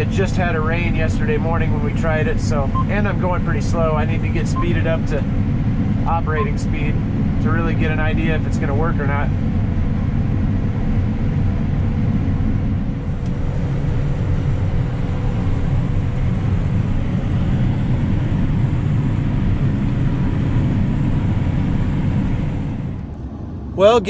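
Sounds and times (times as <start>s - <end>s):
combine harvester engine drone: 0.0s - 24.0s
faint steady whine: 0.0s - 24.0s.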